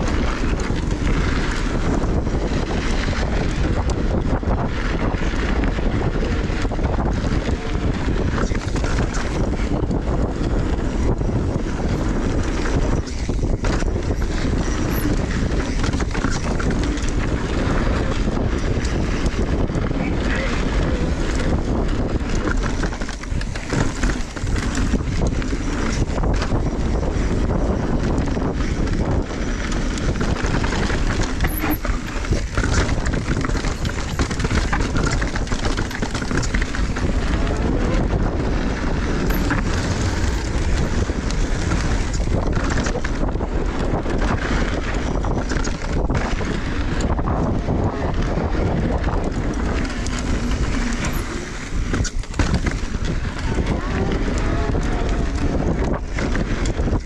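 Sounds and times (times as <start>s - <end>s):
bike rattling and knocking: 0.0s - 57.0s
knobby tyres rumbling on dirt: 0.0s - 57.0s
wind buffeting microphone: 0.0s - 57.0s.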